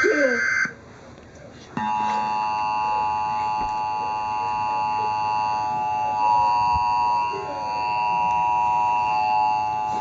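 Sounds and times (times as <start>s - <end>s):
steady electronic alarm tone: 0.0s - 0.8s, 1.8s - 10.0s.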